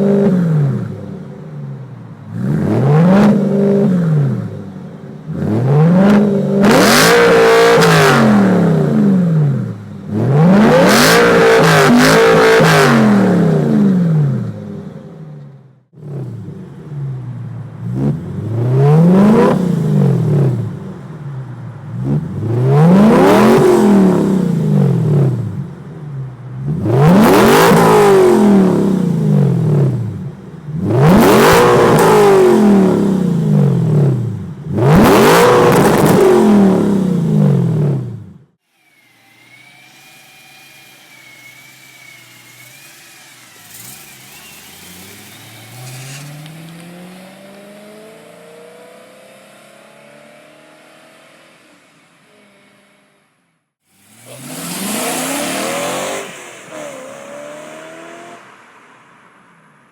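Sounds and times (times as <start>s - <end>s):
car engine revving: 2.3s - 15.1s, 21.8s - 25.9s, 26.5s - 59.4s.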